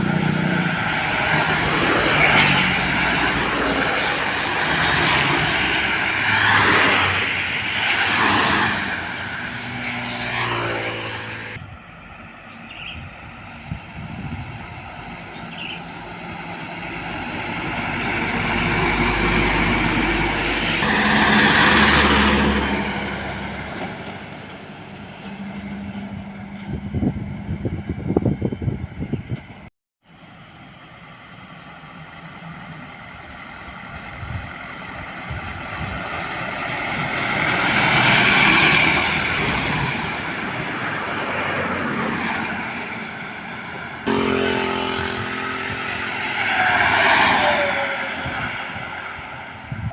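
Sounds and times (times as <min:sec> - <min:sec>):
heavy trucks driving past: 0:00.0 - 0:12.5, 0:13.1 - 0:28.5, 0:30.1 - 0:49.9.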